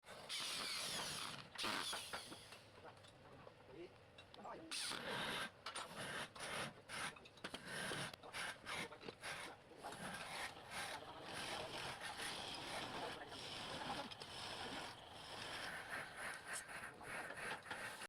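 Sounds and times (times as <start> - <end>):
cutting tool scraping wood: 0.1 - 2.5, 4.8 - 18.0.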